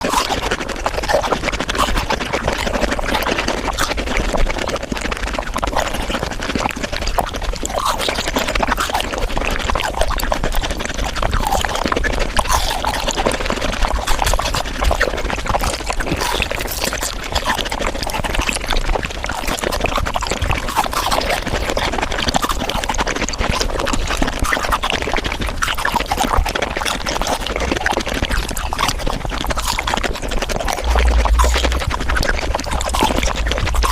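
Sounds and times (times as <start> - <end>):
crunching and chewing frozen fruit: 0.0 - 33.9.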